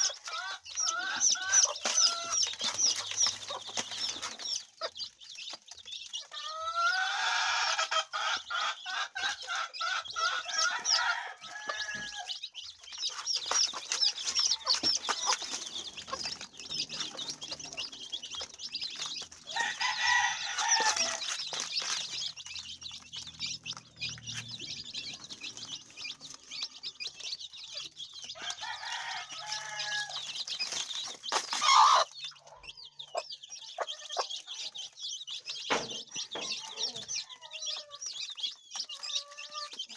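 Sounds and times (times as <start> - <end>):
long drawn-out chicken calls: 0.0 - 5.0, 6.2 - 39.9
chickens clucking: 0.0 - 39.9.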